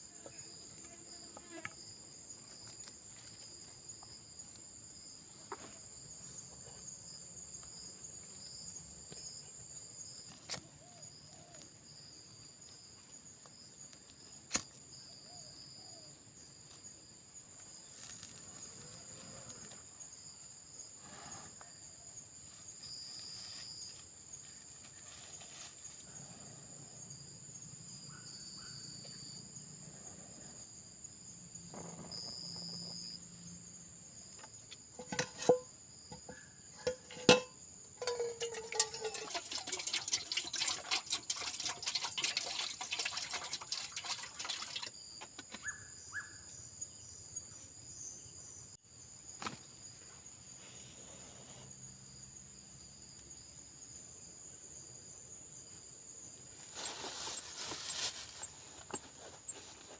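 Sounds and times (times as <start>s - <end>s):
insects and crickets chirring: 0.0s - 59.9s.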